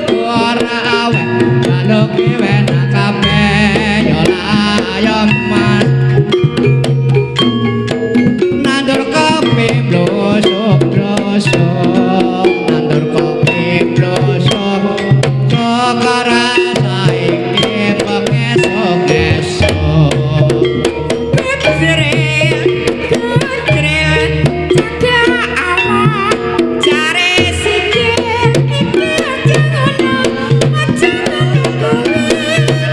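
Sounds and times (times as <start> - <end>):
gamelan music: 0.0 - 32.9
hand drumming: 0.0 - 32.9.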